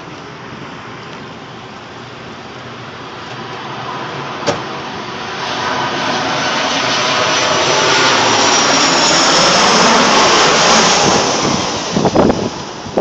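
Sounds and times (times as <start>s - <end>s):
high engine whine: 0.0s - 13.0s
jet airliner passing overhead: 0.0s - 13.0s.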